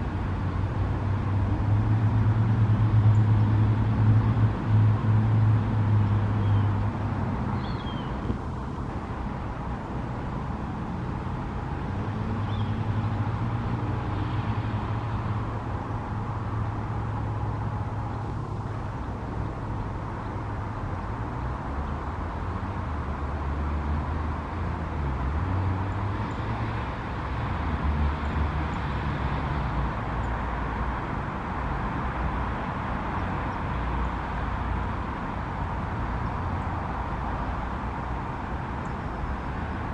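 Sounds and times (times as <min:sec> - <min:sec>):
road traffic rumble: 0:00.0 - 0:39.9
vehicles passing: 0:00.0 - 0:39.9.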